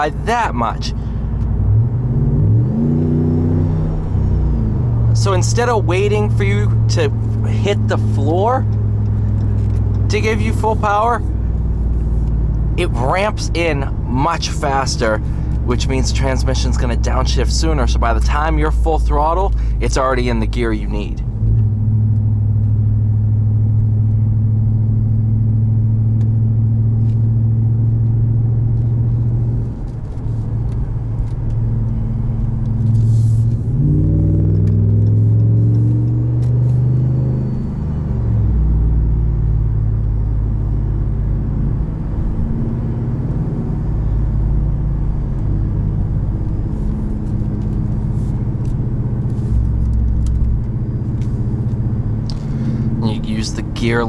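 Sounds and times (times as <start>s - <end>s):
truck engine droning while driving: 0.0s - 54.0s.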